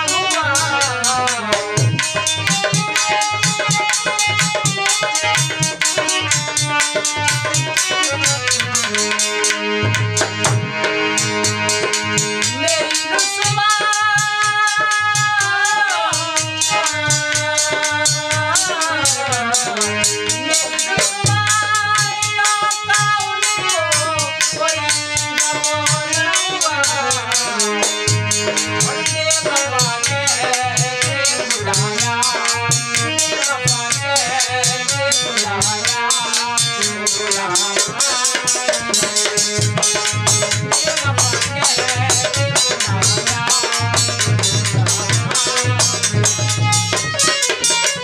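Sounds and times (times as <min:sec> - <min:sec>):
man singing: 0:00.0 - 0:09.6, 0:12.3 - 0:48.0
dholak drum beat: 0:00.0 - 0:48.0
harmonium melody: 0:00.0 - 0:48.0
high jingling percussion: 0:00.0 - 0:48.0.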